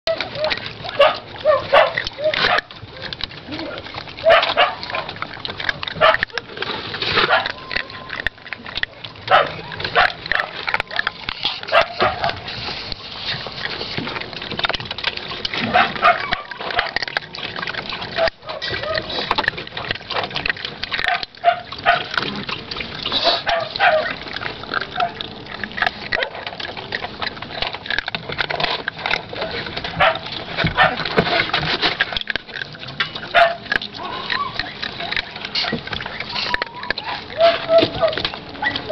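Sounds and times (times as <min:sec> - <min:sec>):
puppies crunching kibble: 0:00.0 - 0:38.9
puppies lapping: 0:00.0 - 0:38.9
puppies squeaking: 0:00.1 - 0:06.6, 0:07.2 - 0:38.9
bowl scraping: 0:00.1 - 0:38.9.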